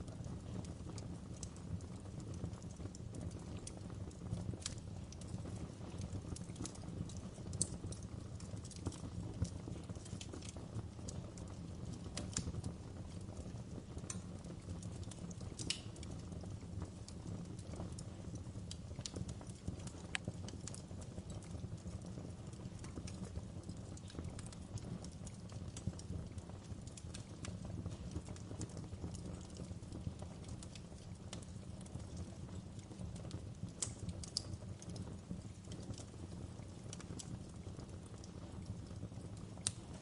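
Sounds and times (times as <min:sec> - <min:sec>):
log fire crackling: 0:00.0 - 0:40.0.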